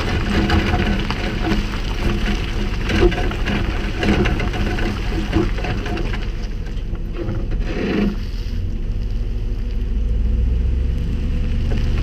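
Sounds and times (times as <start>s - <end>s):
wheels rolling over gravel: 0.0s - 12.0s.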